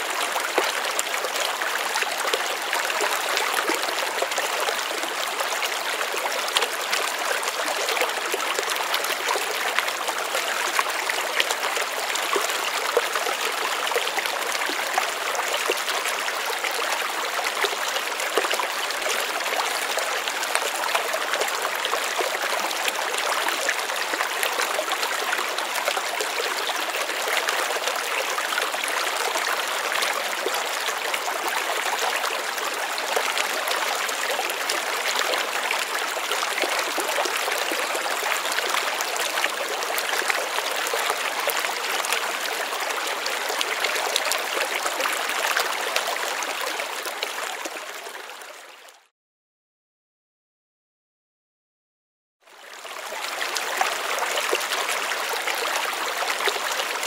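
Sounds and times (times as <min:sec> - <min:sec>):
stream babbling over rocks: 0:00.0 - 0:48.8, 0:52.5 - 0:57.0.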